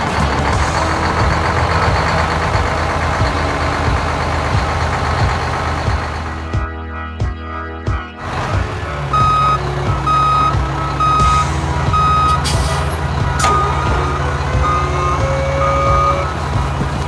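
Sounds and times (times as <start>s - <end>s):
heavy vehicle engine rumble: 0.0s - 6.6s, 8.2s - 17.0s
reversing alarm beeping: 0.0s - 6.6s, 8.2s - 17.0s.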